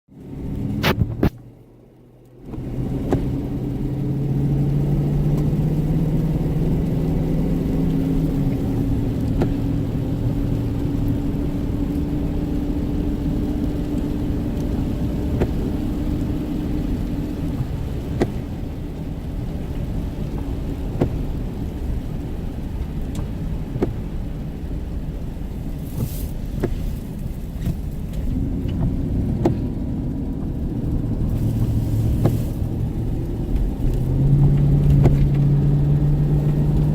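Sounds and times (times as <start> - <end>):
car engine hum: 0.1 - 36.9
road rumble: 0.1 - 36.9.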